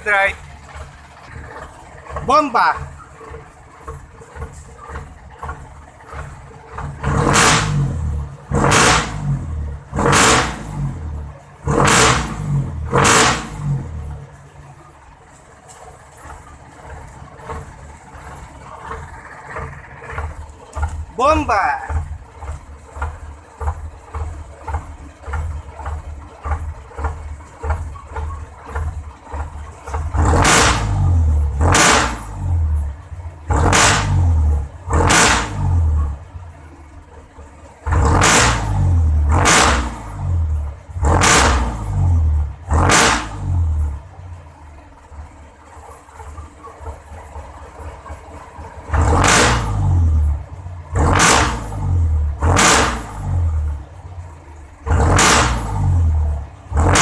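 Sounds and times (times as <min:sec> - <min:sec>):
engine idling and revving: 0:00.0 - 0:57.0
exhaust popping cracks: 0:00.0 - 0:57.0.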